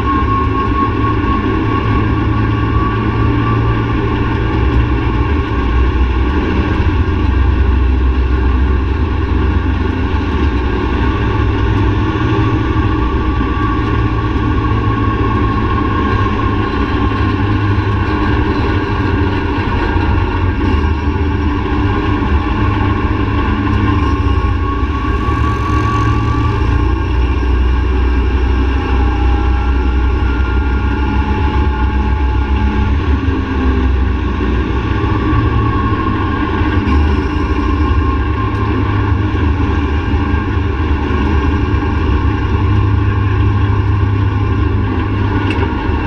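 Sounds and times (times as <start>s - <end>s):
quad bike engine running: 0.0s - 46.0s.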